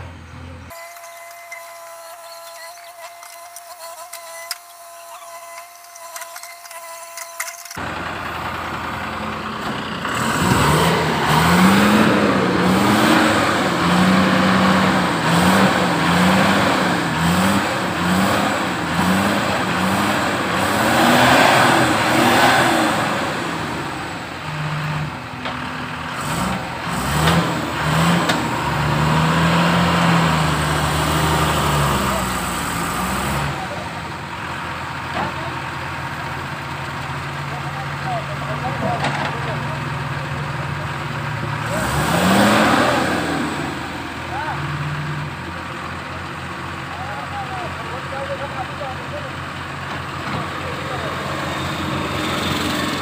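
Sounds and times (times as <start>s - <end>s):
heavy diesel engines revving: 0.0s - 0.8s, 7.6s - 53.0s.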